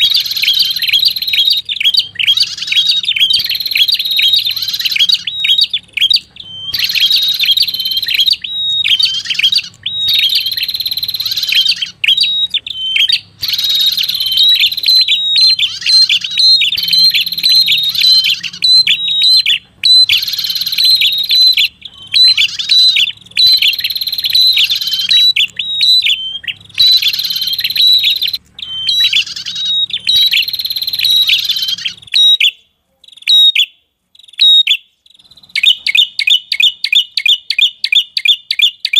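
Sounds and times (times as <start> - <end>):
short bird chirps: 0.0 - 38.7
bird chattering song: 0.0 - 38.9.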